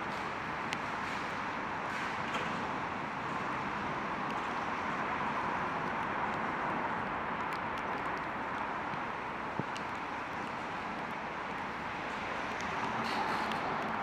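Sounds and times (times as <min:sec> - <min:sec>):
distant traffic: 0:00.0 - 0:14.0
falling rain: 0:02.7 - 0:14.0.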